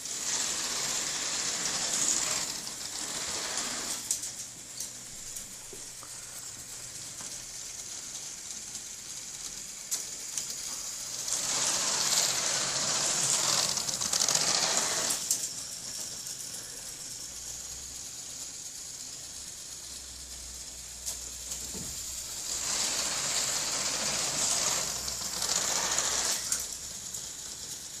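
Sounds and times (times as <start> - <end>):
car rattling along plastic track: 0.0 - 28.0
toy roller coaster lift clatter: 0.0 - 28.0.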